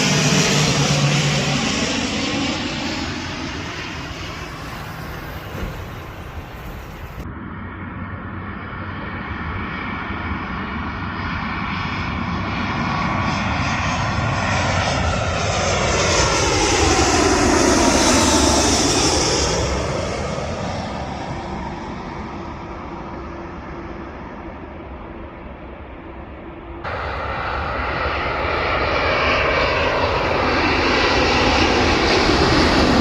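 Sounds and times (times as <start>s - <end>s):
airliner passing low overhead: 0.0s - 33.0s.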